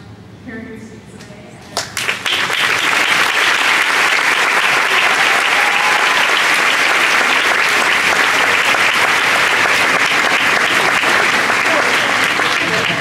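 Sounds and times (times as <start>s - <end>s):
large audience applauding: 1.8s - 13.0s.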